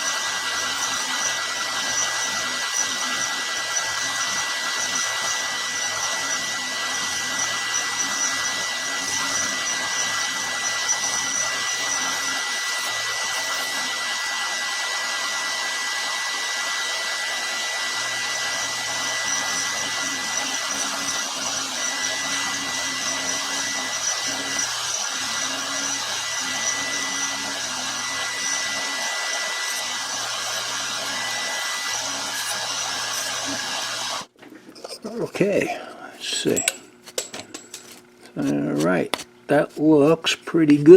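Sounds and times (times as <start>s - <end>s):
milling machine motor whir: 0.0s - 34.3s.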